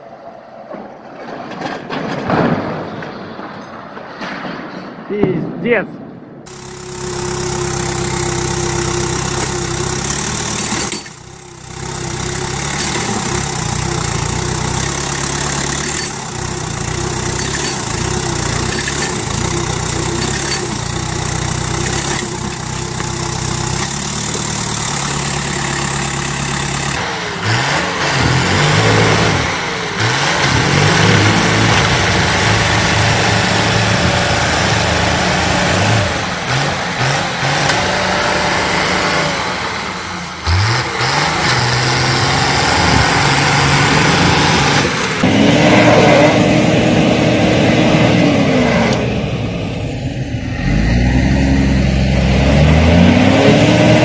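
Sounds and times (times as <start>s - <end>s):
tractor diesel engine under load: 6.5s - 54.0s
tractor engine revving: 6.5s - 54.0s.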